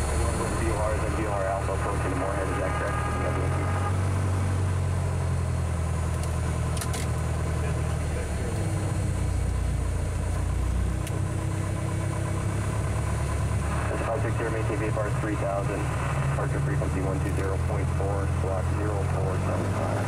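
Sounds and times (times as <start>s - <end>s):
aircraft engine and propeller droning: 0.0s - 20.0s.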